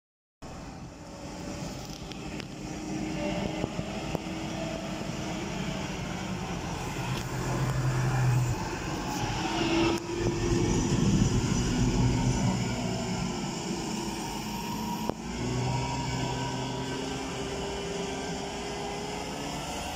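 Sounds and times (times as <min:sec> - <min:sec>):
tractor diesel engine working: 0:00.4 - 0:19.9.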